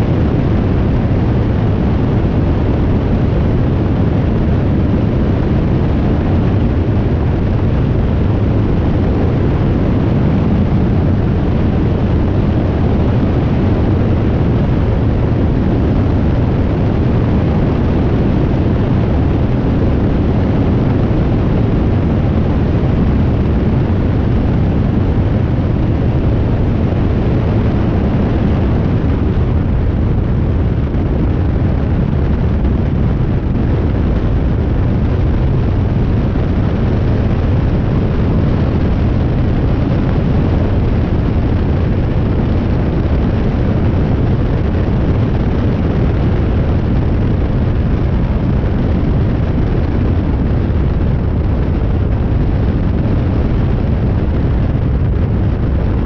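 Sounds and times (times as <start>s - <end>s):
propeller aircraft engine: 0.0s - 56.0s
wind buffeting microphone: 0.0s - 56.0s.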